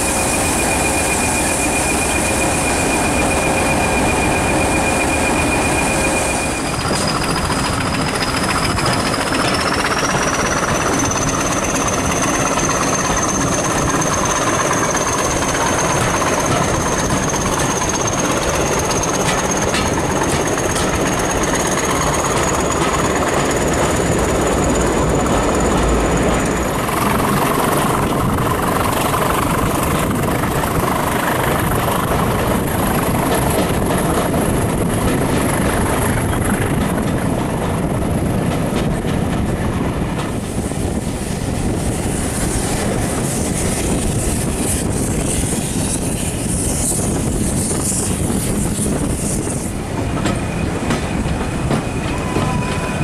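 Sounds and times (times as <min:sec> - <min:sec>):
high thin wheel squeal: 0:00.0 - 0:32.0, 0:42.0 - 0:53.0
train wheels rumbling: 0:00.0 - 0:53.0.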